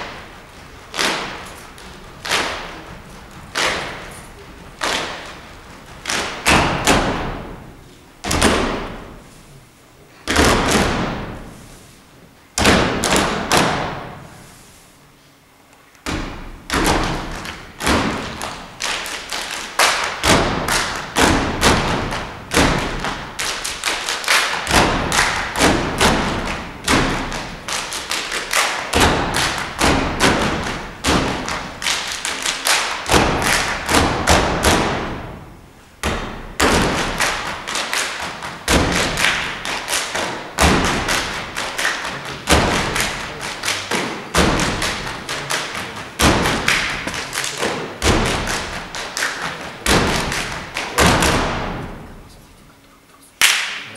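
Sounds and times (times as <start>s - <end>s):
hand claps and slaps: 0.0s - 7.5s, 12.6s - 14.1s, 16.0s - 52.2s, 53.4s - 53.9s.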